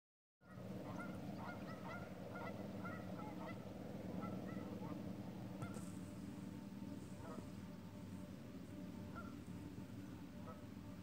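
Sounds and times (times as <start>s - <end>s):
geese honking: 0.4s - 5.9s, 6.6s - 11.0s
steady low hum: 0.4s - 11.0s.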